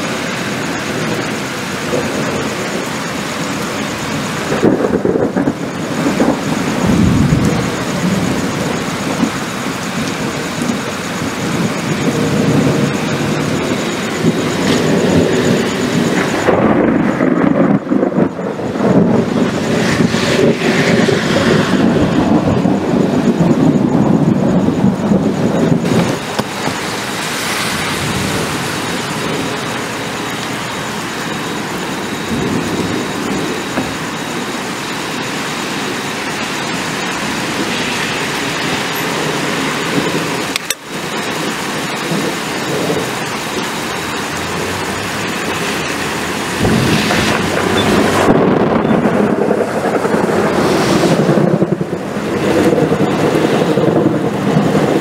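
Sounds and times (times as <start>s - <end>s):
heavy rain: 0.0s - 55.0s
rolling thunder: 0.0s - 55.0s.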